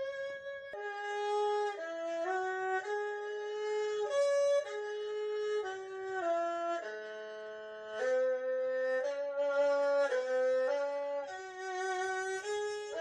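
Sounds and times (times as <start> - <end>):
erhu playing slow melody: 0.0 - 13.0.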